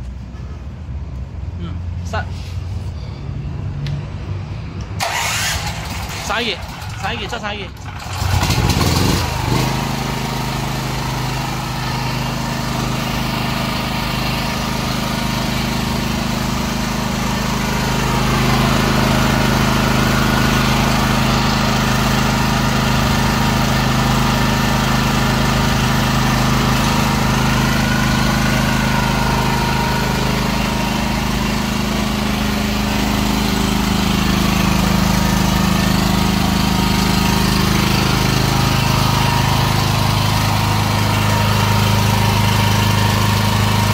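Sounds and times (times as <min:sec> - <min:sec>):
generator engine running: 0:05.0 - 0:43.9.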